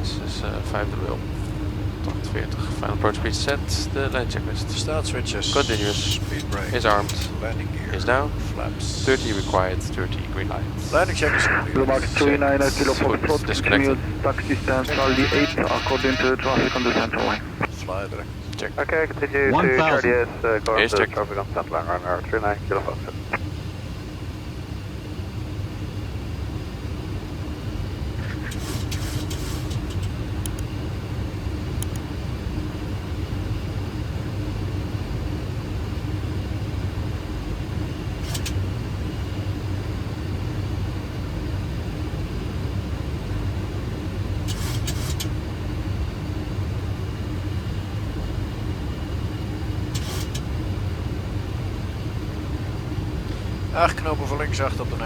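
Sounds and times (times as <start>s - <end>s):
low hum: 0.0s - 55.0s
rumble of airflow and engines: 0.0s - 55.0s.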